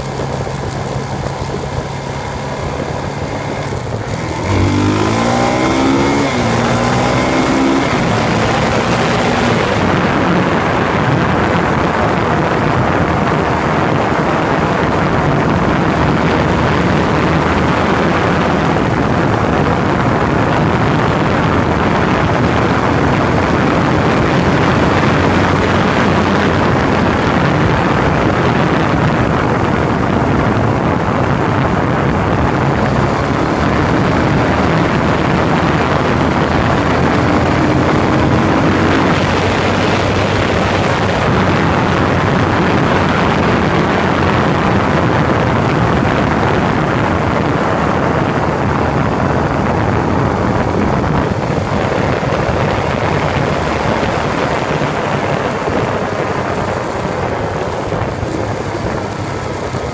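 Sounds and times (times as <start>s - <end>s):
faint motorcycle engine: 0.0s - 59.9s
wind rushing on microphone: 0.0s - 59.9s.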